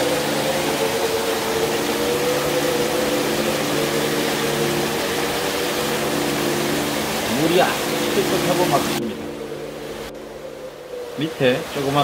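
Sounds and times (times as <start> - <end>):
steady hum of low tones: 0.0 - 12.0
stream water rushing over rocks: 0.0 - 12.0.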